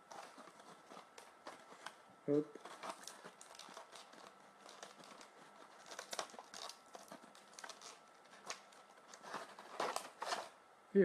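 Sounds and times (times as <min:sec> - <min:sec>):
plastic packaging rustling: 0:00.0 - 0:10.6.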